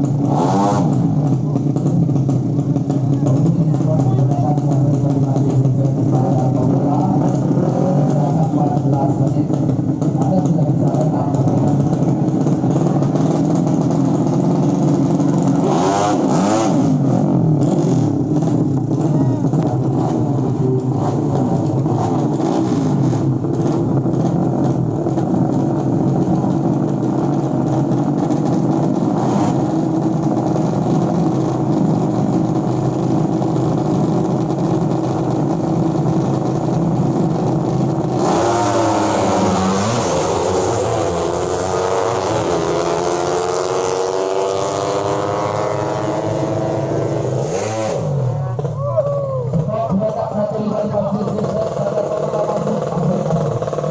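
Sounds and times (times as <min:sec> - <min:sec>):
motorbike engines revving: 0:00.0 - 0:53.9.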